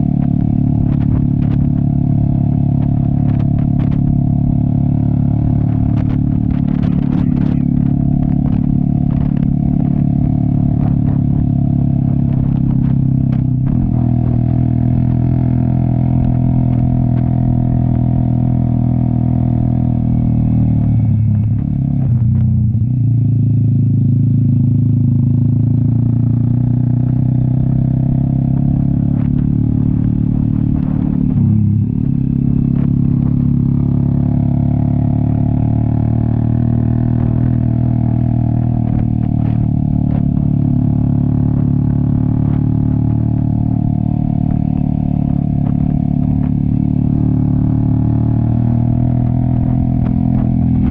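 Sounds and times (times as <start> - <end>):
motorcycle engine under load: 0.0 - 50.9.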